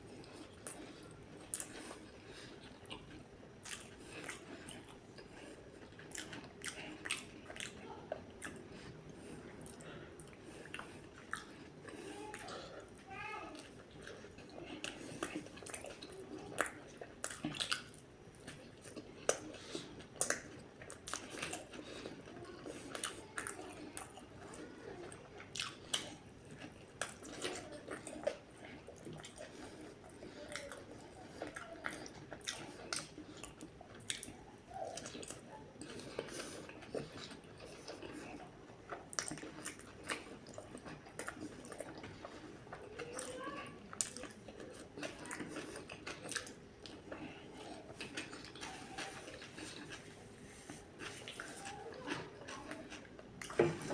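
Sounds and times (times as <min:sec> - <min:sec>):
chewing and biting burger: 0:00.1 - 0:13.0, 0:13.6 - 0:53.9.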